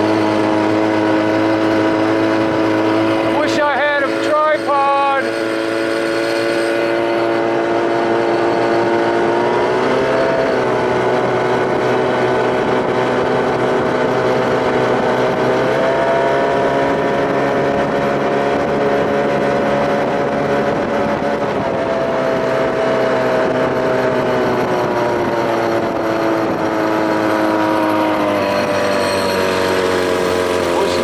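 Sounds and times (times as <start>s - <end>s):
outboard motor running at speed: 0.0s - 31.0s.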